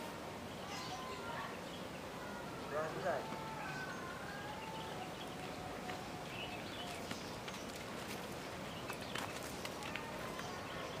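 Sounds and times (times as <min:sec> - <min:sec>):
rural outdoor background noise: 0:00.0 - 0:11.0.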